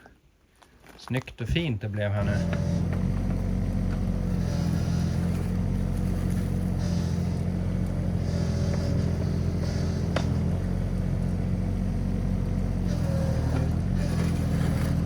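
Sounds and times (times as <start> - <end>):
mini excavator diesel engine running: 2.0 - 15.0.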